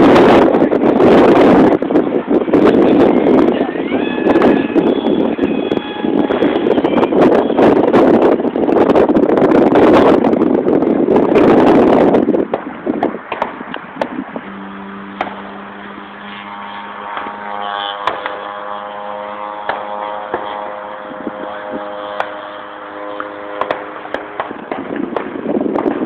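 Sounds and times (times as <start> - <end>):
model airplane engine running: 0.0 - 26.0.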